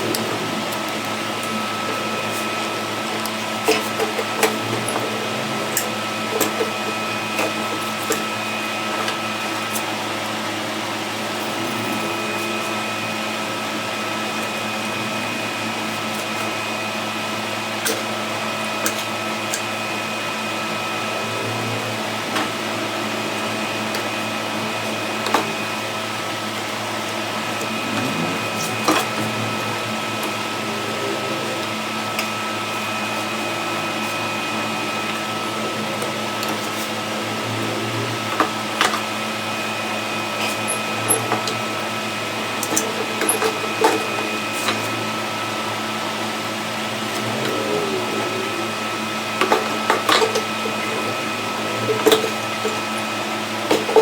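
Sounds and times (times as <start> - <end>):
electric motor humming: 0.0 - 54.0.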